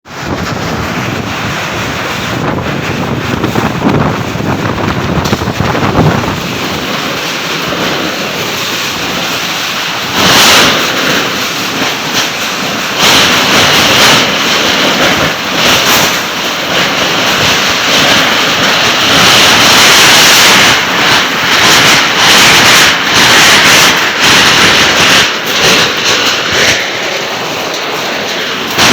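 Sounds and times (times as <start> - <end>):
storm wind gusting: 0.0 - 28.9
wind buffeting microphone: 0.0 - 28.9.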